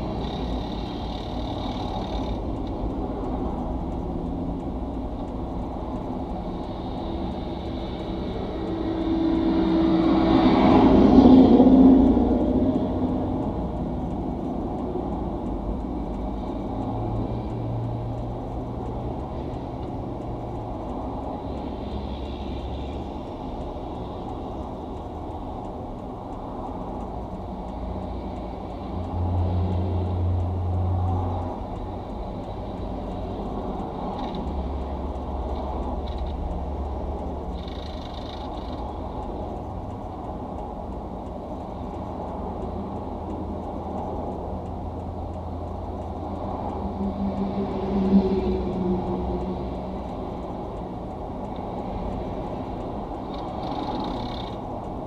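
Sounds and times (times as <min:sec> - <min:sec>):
freeway traffic rumble: 0:00.0 - 0:55.0.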